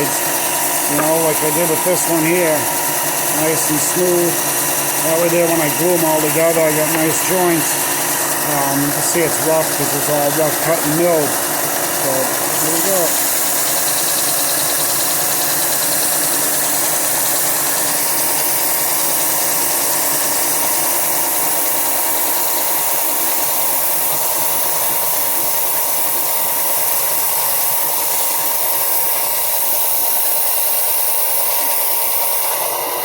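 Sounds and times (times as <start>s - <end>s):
belt sander sanding wood: 0.0s - 33.0s.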